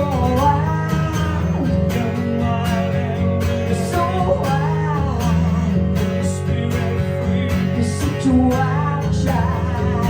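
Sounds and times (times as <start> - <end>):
guitar played to a steady beat: 0.0 - 10.0.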